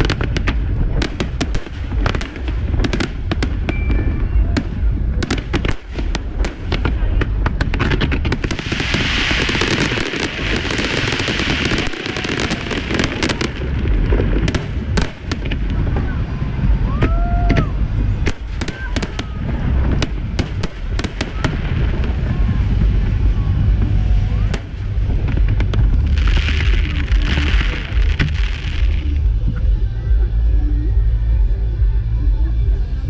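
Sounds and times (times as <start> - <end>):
fireworks whistles: 0.0 - 29.3
fireworks booming: 0.0 - 30.3
fireworks crackling: 0.0 - 31.8.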